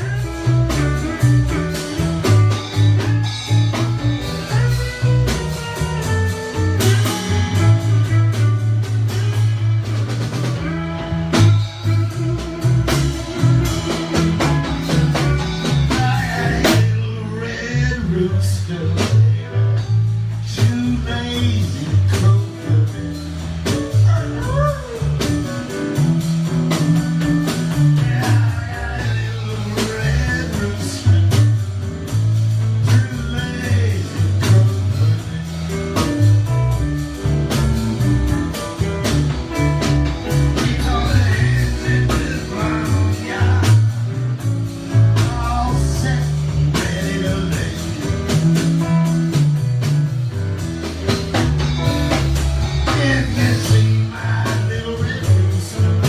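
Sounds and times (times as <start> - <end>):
bass line: 0.0 - 56.0
blues band playing: 0.0 - 56.0
guitar: 0.0 - 56.0.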